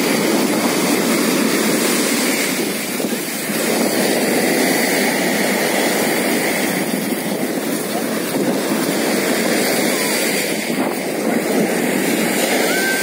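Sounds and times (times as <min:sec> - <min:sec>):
waves breaking on sand: 0:00.0 - 0:13.0.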